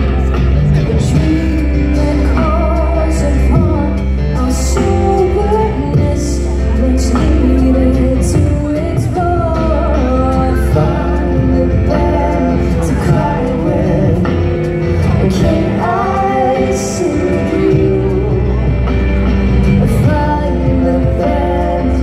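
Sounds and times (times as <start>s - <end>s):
people singing: 0.0s - 22.0s.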